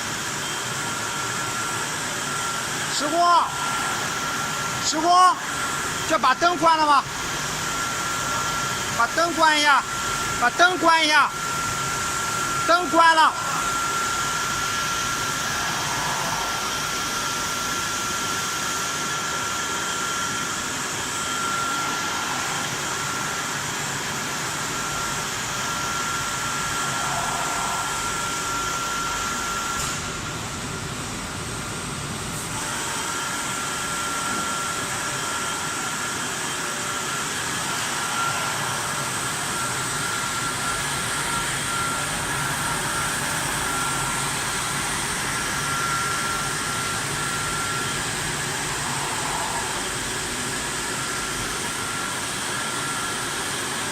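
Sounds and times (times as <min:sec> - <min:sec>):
high-pitched whine: 0:00.0 - 0:53.9
washing machine whirring: 0:00.0 - 0:53.9.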